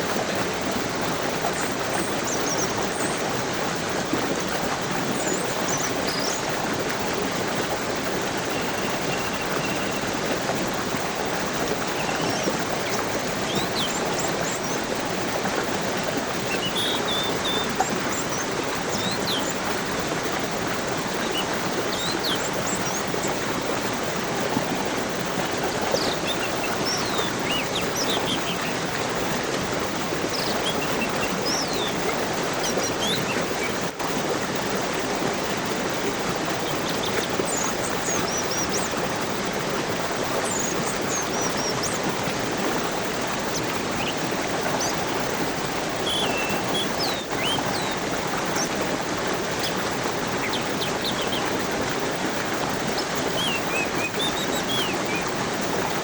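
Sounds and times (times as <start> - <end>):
small birds chirping: 0.0 - 3.6, 4.7 - 23.8, 24.6 - 33.9, 36.4 - 39.3, 40.4 - 51.8, 52.4 - 56.0
stream rushing: 0.0 - 56.0.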